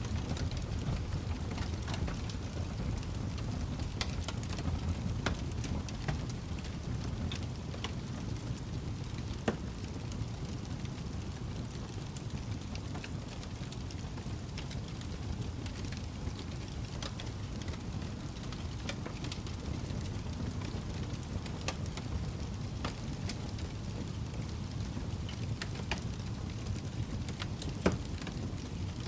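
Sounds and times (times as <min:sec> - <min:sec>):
fire crackling and popping: 0:00.0 - 0:29.0
low rumble of flame: 0:00.0 - 0:29.0.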